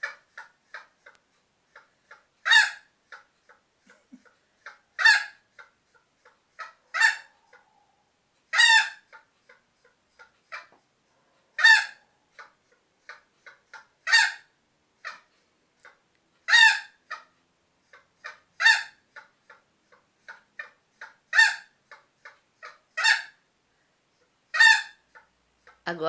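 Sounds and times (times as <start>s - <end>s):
hen cackling and squawking: 0.0s - 3.6s, 4.2s - 10.8s, 11.6s - 23.5s, 24.5s - 25.8s.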